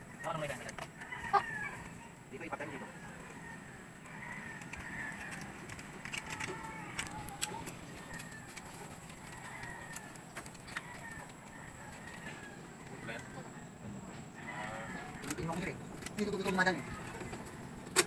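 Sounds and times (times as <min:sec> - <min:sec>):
chickens calling: 0:00.0 - 0:17.9.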